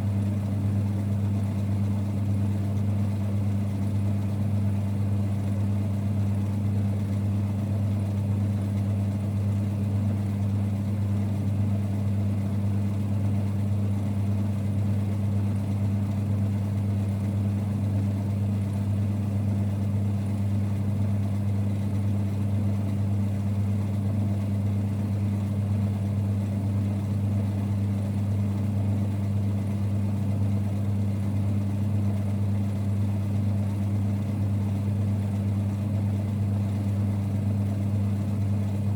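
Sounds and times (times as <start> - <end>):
lathe running with low hum: 0.0 - 38.9.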